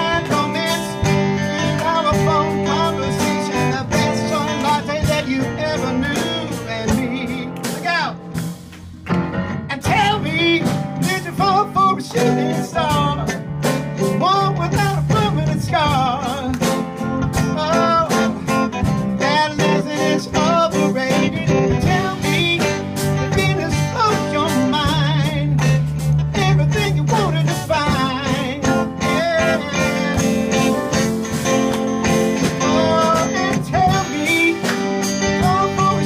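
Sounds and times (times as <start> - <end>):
male lead singer: 0.0 - 8.4, 9.6 - 36.0
drum kit: 0.0 - 36.0
electric guitar: 0.0 - 36.0
keyboard: 0.0 - 36.0.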